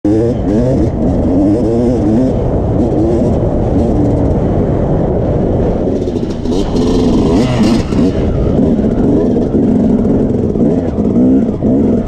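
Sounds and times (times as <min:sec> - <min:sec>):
dirt bike engine revving: 0:00.1 - 0:04.2, 0:05.8 - 0:12.0
low rumble: 0:00.2 - 0:12.0.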